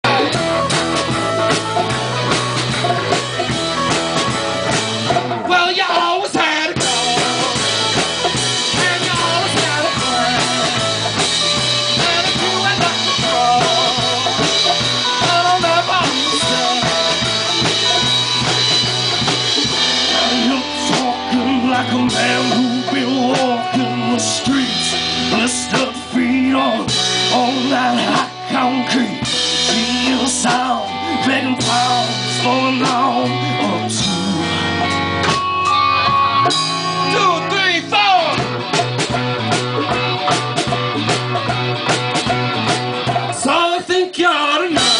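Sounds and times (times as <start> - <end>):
drum kit: 0.0 - 44.9
guitars: 0.0 - 44.9.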